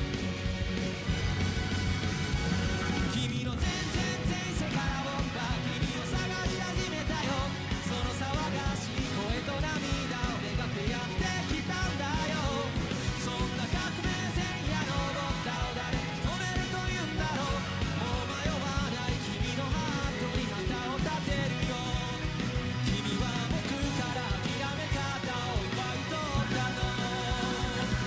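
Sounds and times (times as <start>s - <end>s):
rock music with drums and guitar: 0.0s - 28.0s.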